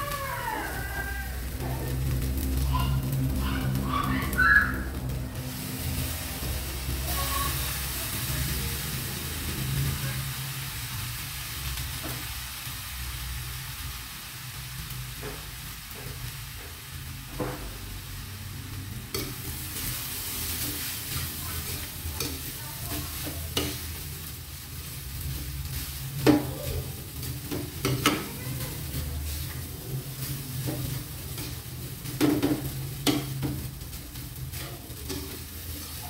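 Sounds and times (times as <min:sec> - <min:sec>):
rice sizzling in a frying pan: 0:00.0 - 0:36.0.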